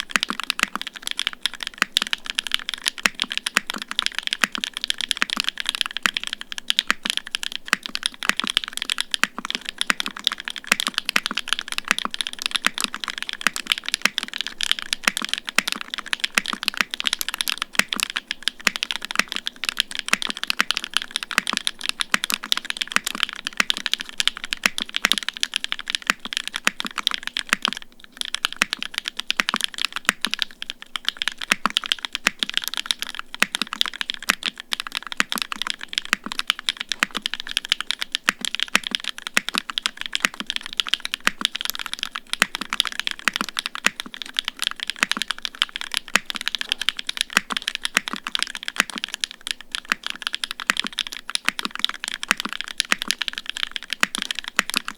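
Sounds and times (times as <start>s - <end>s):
fast typing on mechanical keyboard: 0.0s - 54.9s.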